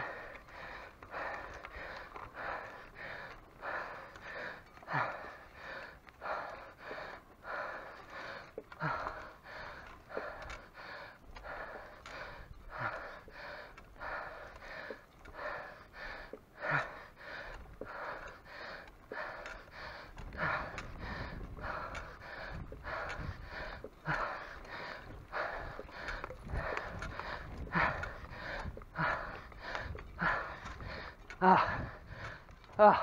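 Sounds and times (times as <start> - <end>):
man breathing hard: 0.0 - 33.0
man gasping: 0.0 - 33.0.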